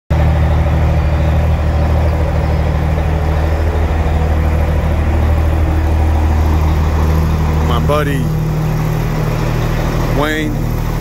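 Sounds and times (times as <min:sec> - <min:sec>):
diesel truck engine idling: 0:00.1 - 0:11.0.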